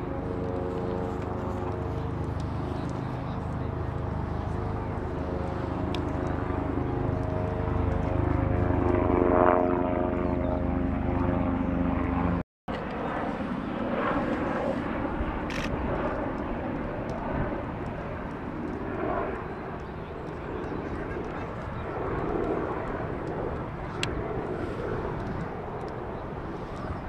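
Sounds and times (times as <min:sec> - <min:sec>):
propeller aircraft passing overhead: 0:00.0 - 0:27.0
rough outdoor background noise: 0:00.0 - 0:27.0.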